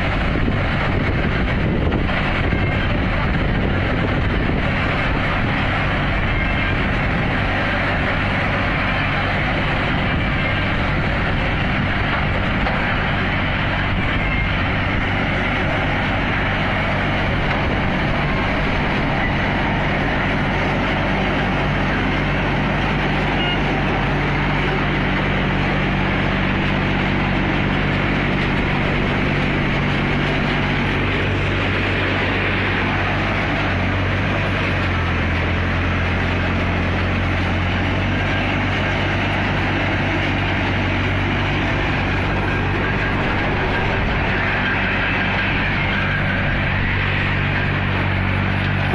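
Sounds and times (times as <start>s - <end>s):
harvester machinery noise: 0.0s - 48.9s
tractor diesel engine drone: 0.0s - 48.9s.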